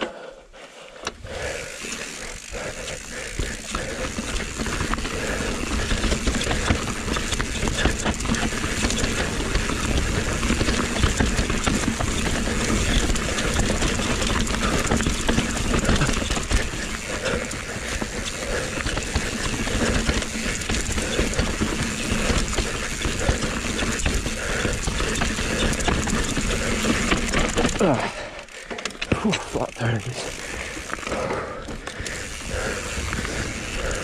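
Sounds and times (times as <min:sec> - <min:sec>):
bike chain and parts rattling: 0:01.0 - 0:34.0
tyre noise on dirt: 0:01.2 - 0:28.4.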